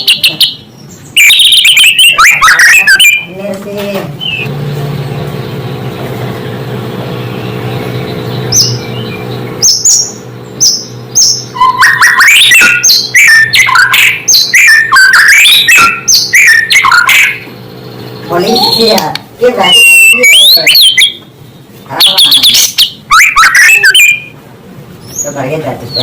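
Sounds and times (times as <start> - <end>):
bird whistling song: 0.0 - 3.3, 4.2 - 6.2, 7.0 - 19.0, 19.6 - 24.4
steady low hum: 0.0 - 26.0.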